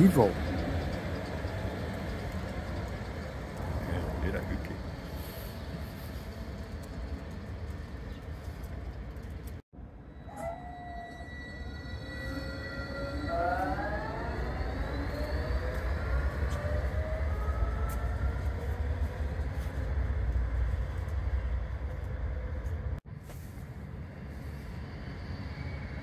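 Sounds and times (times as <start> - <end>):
tram motor whining: 0.0 - 23.0
tram running past: 0.0 - 26.0
wheels rumbling on rail: 0.0 - 26.0.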